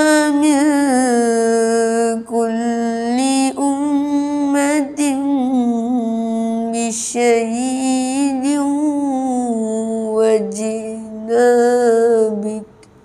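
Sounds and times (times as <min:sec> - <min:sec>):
boy chanting recitation: 0:00.0 - 0:12.8.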